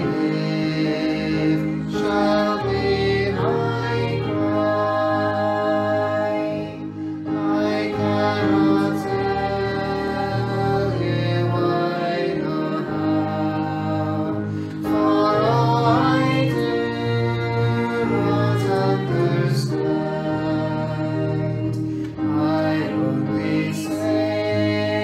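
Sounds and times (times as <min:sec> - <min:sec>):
hymn singing: 0:00.0 - 0:25.0.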